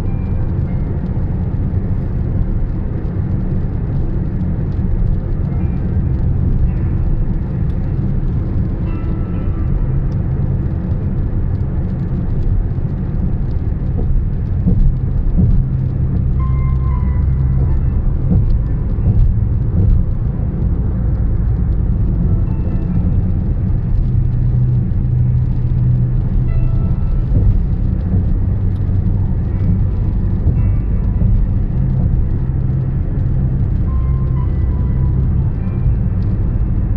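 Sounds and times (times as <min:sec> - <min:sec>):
car road rumble on highway: 0:00.0 - 0:36.9
faint music playing: 0:00.0 - 0:36.9.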